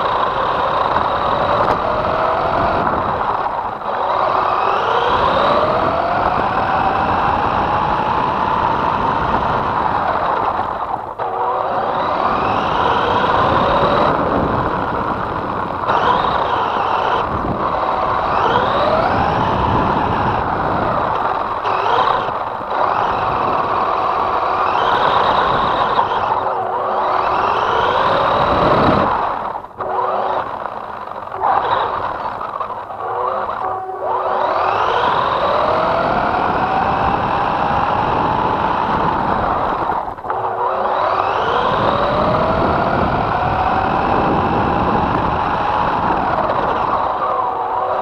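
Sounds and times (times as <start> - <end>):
drivetrain and tyre noise: 0.0 - 48.0
electric motor whining: 0.0 - 48.0.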